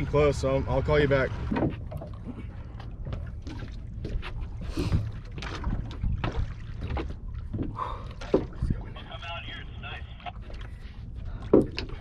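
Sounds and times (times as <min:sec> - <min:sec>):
water slapping against hull: 0:00.0 - 0:12.0.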